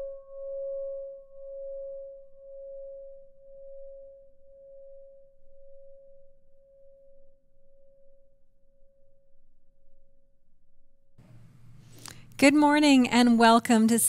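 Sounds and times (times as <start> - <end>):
faint sustained pure tone: 0.0 - 12.2.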